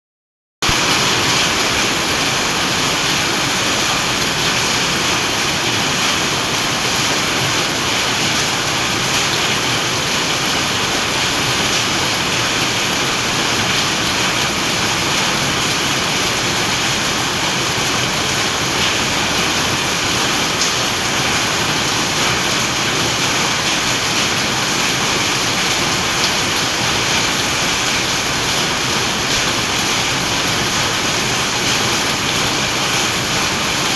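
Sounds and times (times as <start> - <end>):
steady rain falling: 0.6 - 33.9.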